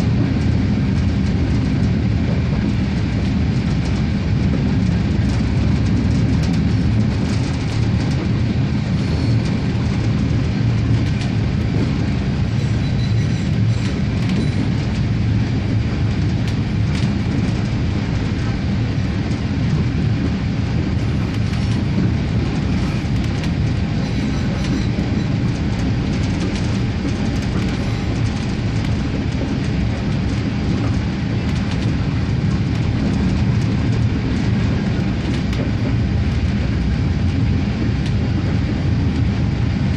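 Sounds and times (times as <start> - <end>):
railcar engine and wheels rumbling: 0.0 - 39.9
wheels clicking over track: 0.1 - 36.5.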